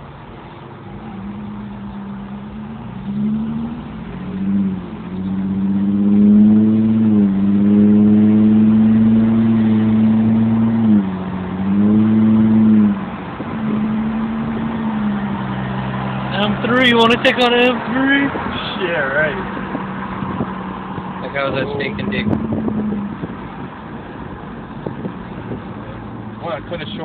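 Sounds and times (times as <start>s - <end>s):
car engine revving: 0.8s - 27.0s.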